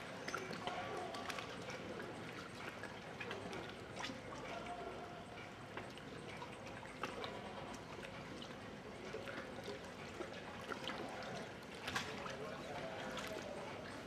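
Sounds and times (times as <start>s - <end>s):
small splashes and drips: 0.0s - 14.0s
water lapping and trickling: 0.0s - 14.0s.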